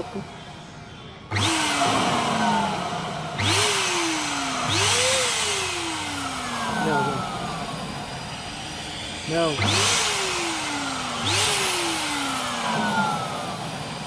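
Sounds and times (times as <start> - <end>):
electric pump motor whirring: 0.0 - 14.0.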